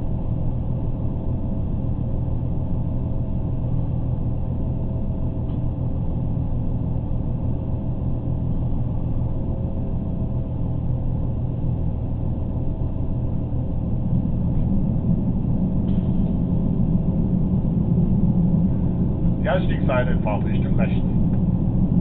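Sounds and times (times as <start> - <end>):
faint steady hum: 0.0 - 22.0
train rumble inside carriage: 0.0 - 22.0.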